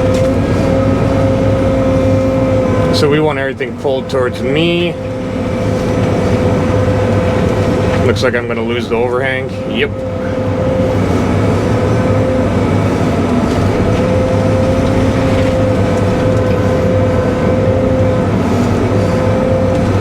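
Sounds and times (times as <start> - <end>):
excavator engine hum with whine: 0.0 - 20.0.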